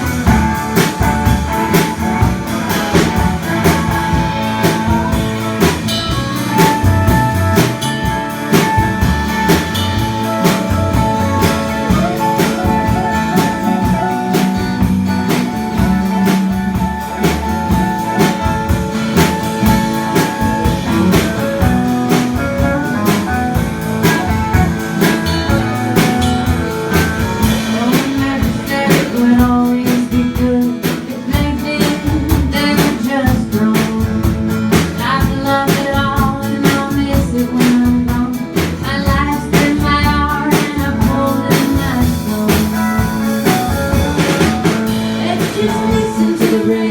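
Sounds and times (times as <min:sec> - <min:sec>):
live blues band: 0:00.0 - 0:46.9.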